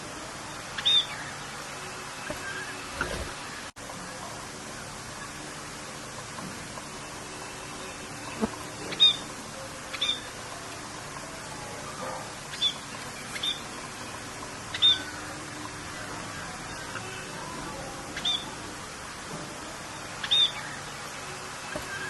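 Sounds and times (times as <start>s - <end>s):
rain hissing: 0.0s - 22.0s
birds chirping: 0.4s - 22.0s.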